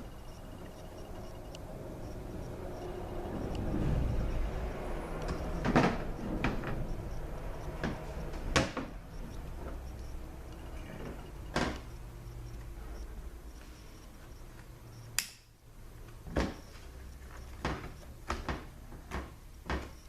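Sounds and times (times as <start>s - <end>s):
low steady hum: 0.0s - 19.7s.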